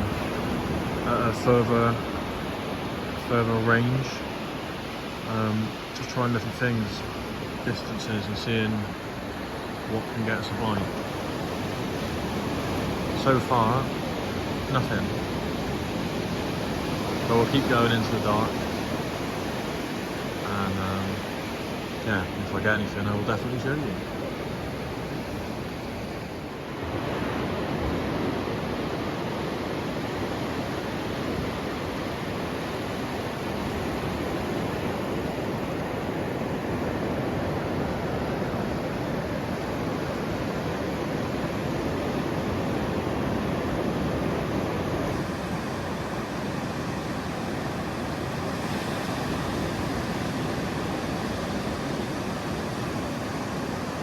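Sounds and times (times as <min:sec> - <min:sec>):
sea surf breaking on beach: 0:00.0 - 0:54.0.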